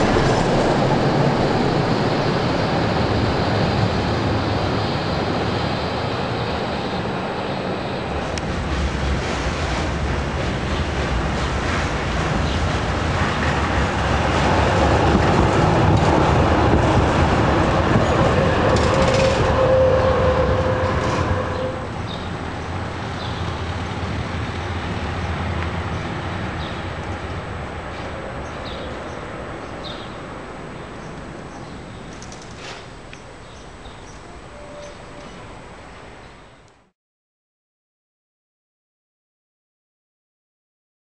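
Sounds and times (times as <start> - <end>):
steady tram whine: 0.0 - 36.8
tram running on track: 0.0 - 36.9.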